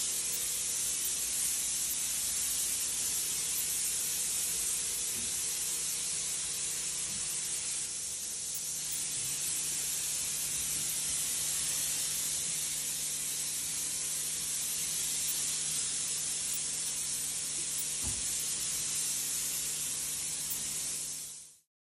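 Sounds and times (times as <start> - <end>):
spray wand hissing: 0.0 - 21.6.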